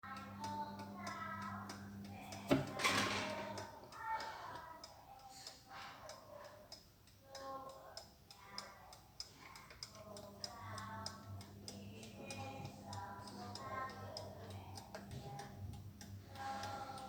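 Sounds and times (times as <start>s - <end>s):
wind-up alarm clock ticking: 0.0s - 17.0s.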